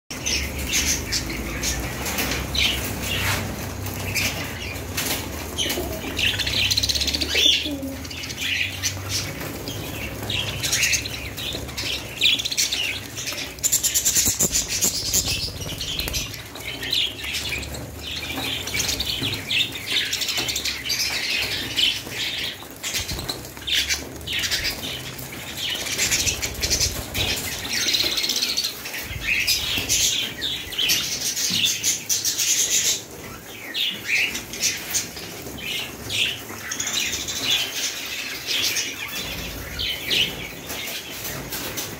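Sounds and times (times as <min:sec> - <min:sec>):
flock of budgerigars chattering: 0:00.1 - 0:41.9.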